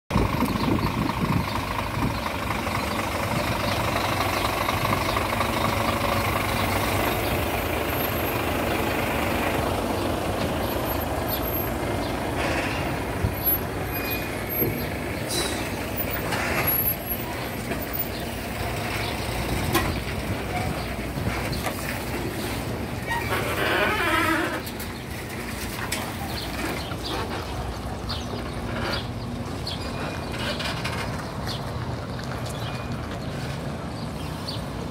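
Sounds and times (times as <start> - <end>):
diesel truck engine running: 0.1 - 34.9
tyres on asphalt: 0.1 - 34.9.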